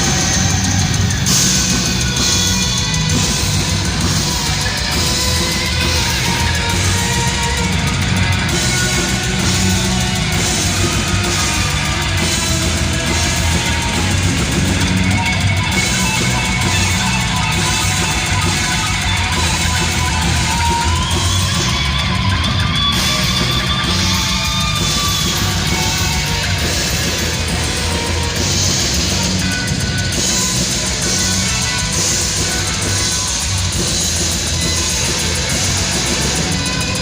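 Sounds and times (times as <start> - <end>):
heavy metal band playing live: 0.0 - 37.0.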